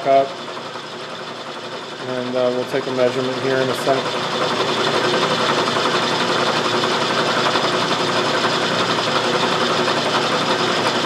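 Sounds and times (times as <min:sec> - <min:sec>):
milling machine chattering: 0:00.0 - 0:11.0.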